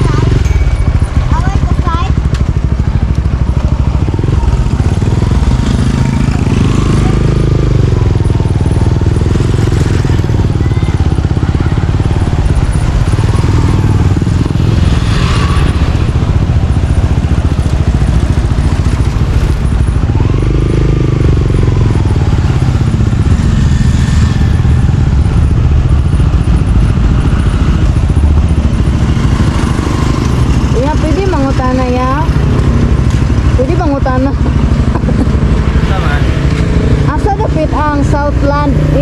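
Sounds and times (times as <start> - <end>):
road and wind noise: 0.0 - 39.0
vehicle engine rumble: 0.0 - 39.0.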